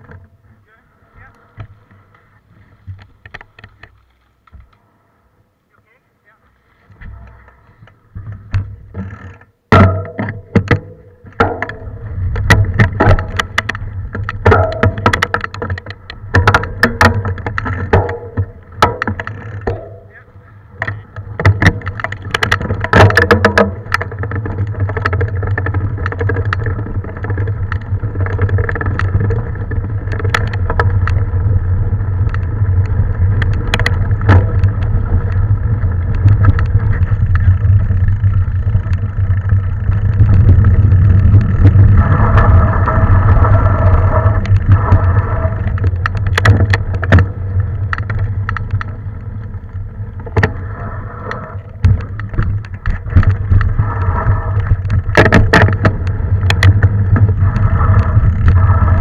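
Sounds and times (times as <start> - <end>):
wind: 0.0 - 59.0
bike knocks and rattles: 8.0 - 50.6, 51.6 - 59.0
tyres rumbling on dirt: 11.4 - 59.0.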